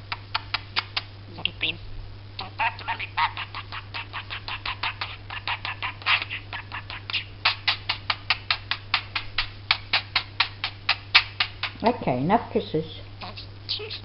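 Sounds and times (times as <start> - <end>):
kissing smacks: 0.0 - 1.2, 2.4 - 11.9, 13.2 - 14.0.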